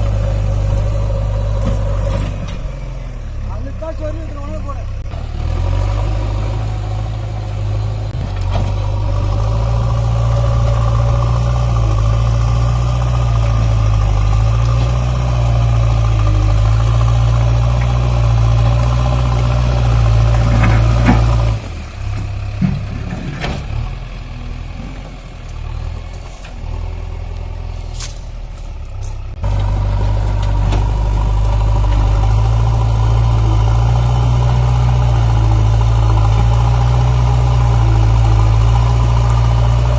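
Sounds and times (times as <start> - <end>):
diesel engine deep hum: 0.0 - 39.9.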